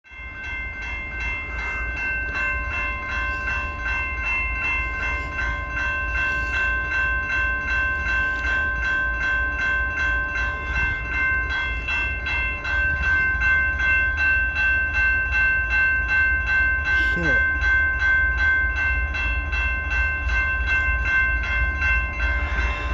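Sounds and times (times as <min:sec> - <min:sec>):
crossing warning bell ringing: 0:00.0 - 0:22.9.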